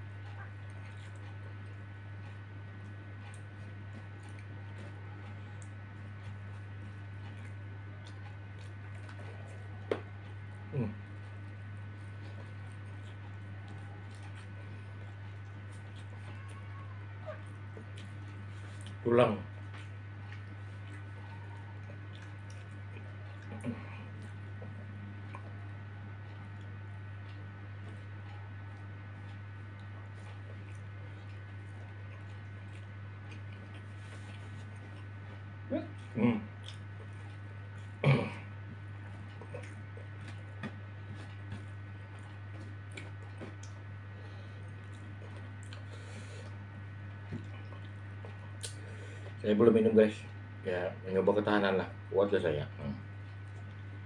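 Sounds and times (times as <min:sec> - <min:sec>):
chewing: 0:00.0 - 0:49.4, 0:52.9 - 0:54.0
steady low hum: 0:00.0 - 0:54.0.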